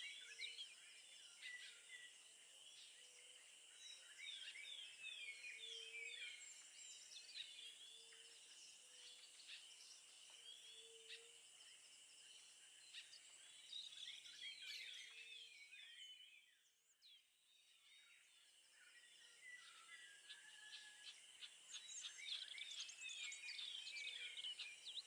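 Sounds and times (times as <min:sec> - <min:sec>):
birds chirping and twittering: 0:00.0 - 0:25.0.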